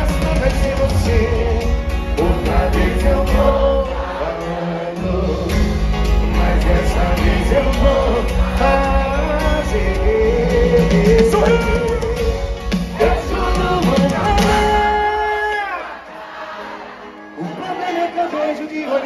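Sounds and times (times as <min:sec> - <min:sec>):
live band with singing: 0:00.0 - 0:19.0.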